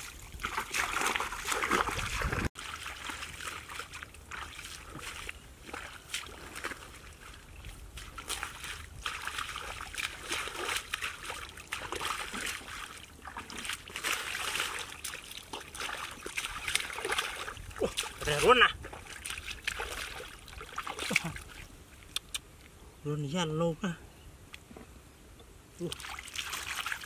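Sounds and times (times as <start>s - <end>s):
muddy water splashing: 0.0s - 22.5s, 25.8s - 27.0s.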